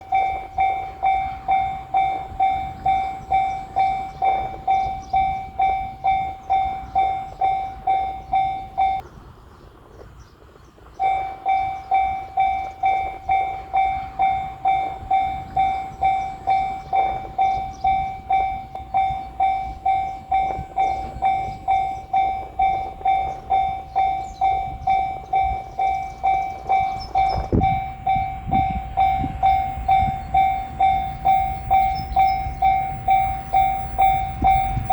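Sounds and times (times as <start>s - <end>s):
level crossing warning bell: 0.0s - 9.4s, 10.8s - 34.9s.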